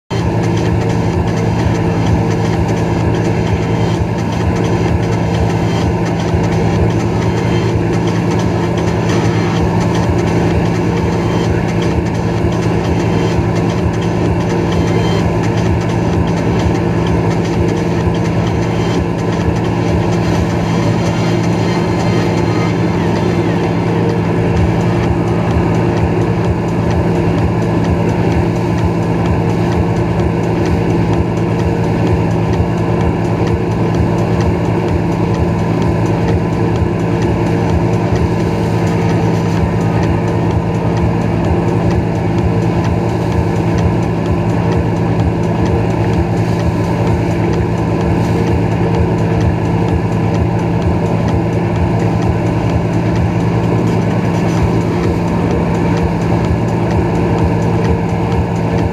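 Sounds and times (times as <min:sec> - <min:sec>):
boat engine running: 0:00.0 - 0:58.9
churning wake water: 0:00.1 - 0:58.9.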